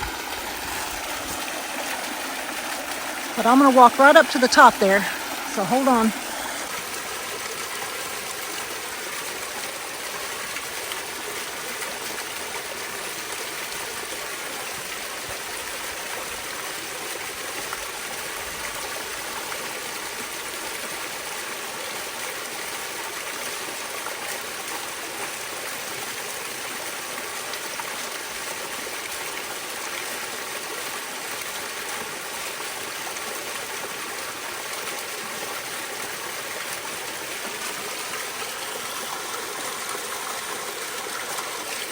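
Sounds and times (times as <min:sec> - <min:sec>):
waterfall rushing and splashing: 0:00.0 - 0:41.9.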